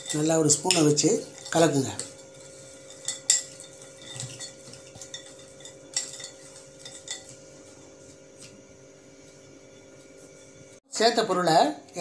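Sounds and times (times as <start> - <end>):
nuts and dried fruit stirred in bowl: 0.0 - 10.8.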